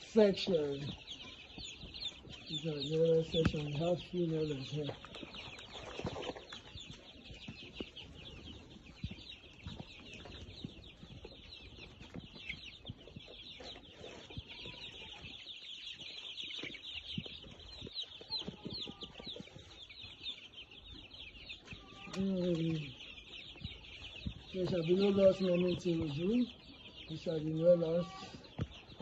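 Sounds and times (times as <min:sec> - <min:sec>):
chicks peeping: 0:00.0 - 0:29.0.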